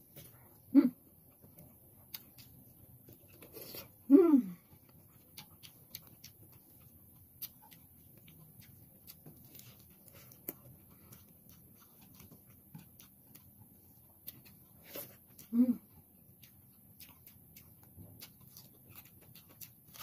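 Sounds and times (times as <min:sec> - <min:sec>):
chewing: 0:01.2 - 0:20.0.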